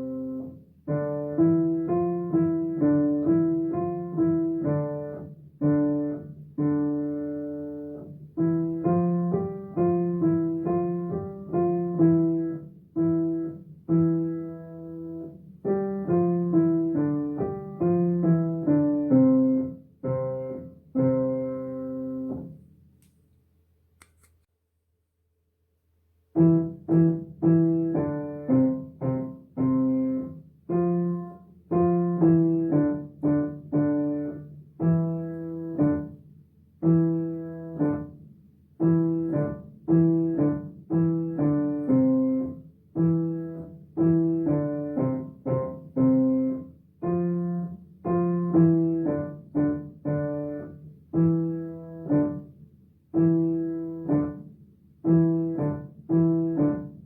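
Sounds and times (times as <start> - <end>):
piano melody: 0.0 - 22.6, 26.4 - 36.2, 36.8 - 38.2, 38.8 - 52.5, 53.1 - 57.0.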